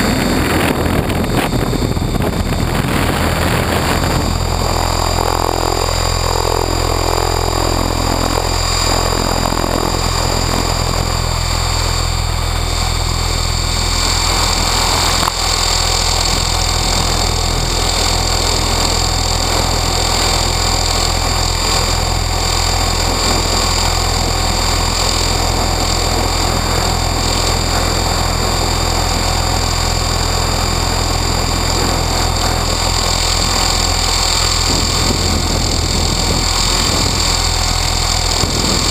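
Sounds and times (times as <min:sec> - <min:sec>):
rc helicopter motor whine: 0:00.0 - 0:38.9
rotor drone: 0:00.0 - 0:38.9.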